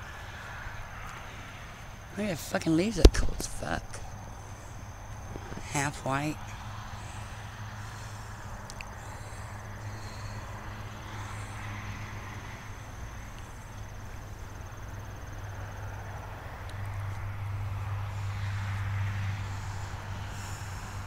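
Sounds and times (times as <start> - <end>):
constant low hum: 0.0 - 21.0
soft insect chirps: 0.5 - 21.0.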